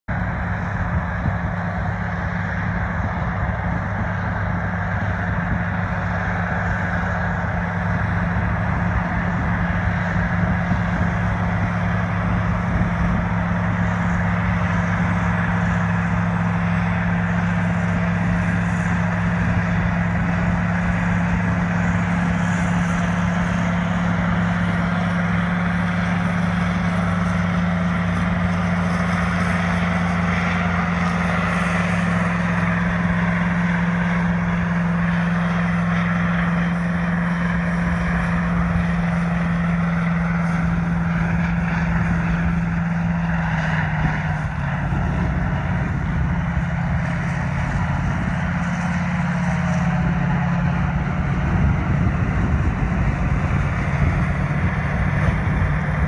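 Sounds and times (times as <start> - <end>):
tractor engines droning: 0.0 - 56.0.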